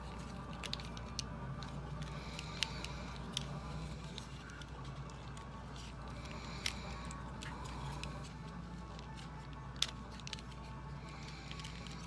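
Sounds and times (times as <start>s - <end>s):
steady low hum: 0.0s - 12.0s
plastic toy parts clicking: 0.1s - 8.3s, 8.9s - 12.0s.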